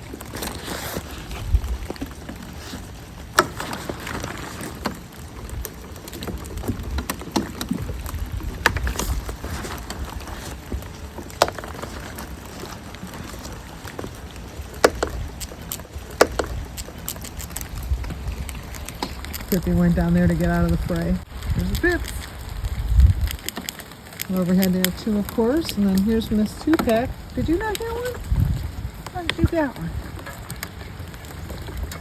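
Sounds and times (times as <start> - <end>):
raindrop taps: 0.0 - 32.0
wind rumbling on microphone: 0.0 - 32.0.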